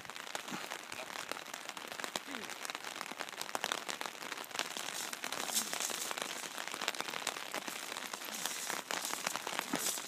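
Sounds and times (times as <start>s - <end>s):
rain hissing: 0.0s - 10.0s
raindrops ticking: 0.0s - 10.0s.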